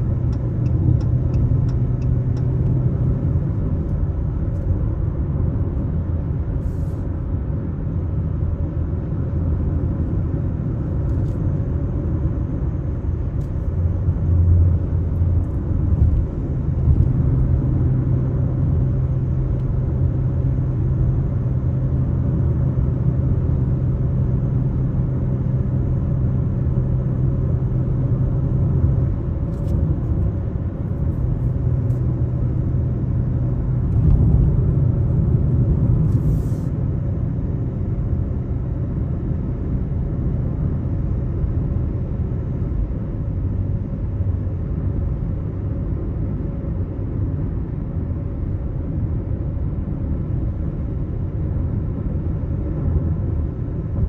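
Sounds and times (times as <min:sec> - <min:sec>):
low engine hum: 0:00.0 - 0:54.0
road and engine rumble: 0:00.0 - 0:54.0.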